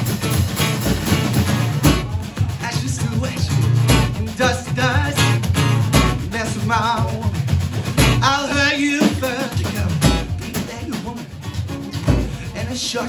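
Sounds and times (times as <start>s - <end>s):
snare and bass drum: 0.0s - 13.0s
strummed acoustic guitar: 0.0s - 13.0s
man singing: 1.8s - 13.0s.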